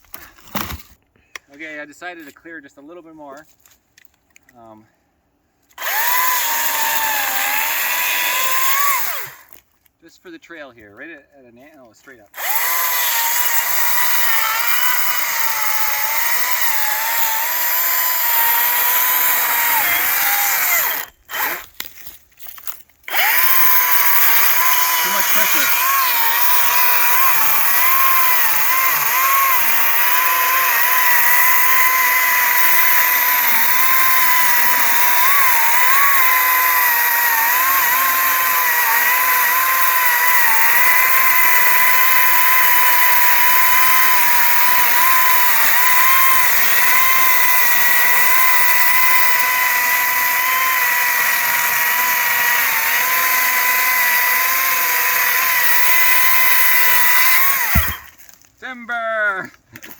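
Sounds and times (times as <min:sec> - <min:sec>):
electric chainsaw cutting wood: 0:05.8 - 0:09.6, 0:12.4 - 0:58.4.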